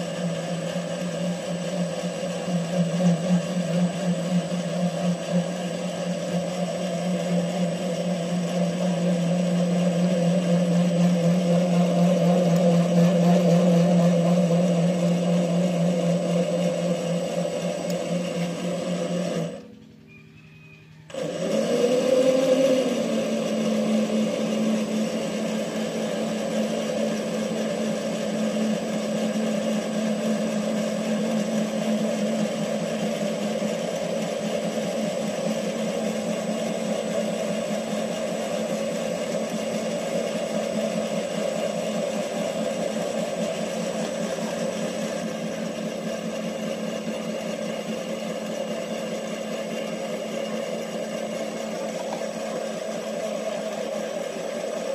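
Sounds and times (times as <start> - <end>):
metal lathe motor humming: 0.0 - 20.0, 21.1 - 54.9.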